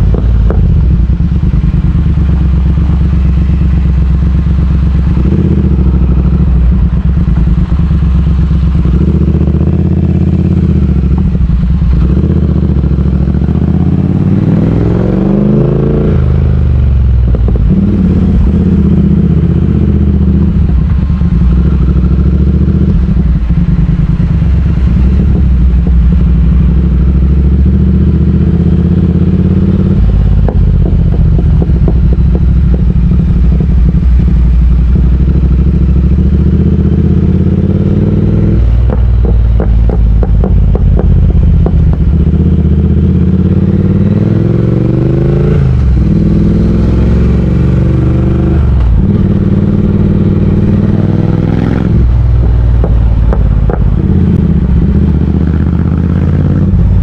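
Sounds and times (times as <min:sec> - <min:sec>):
motorcycle twin engine running: 0:00.0 - 0:57.0.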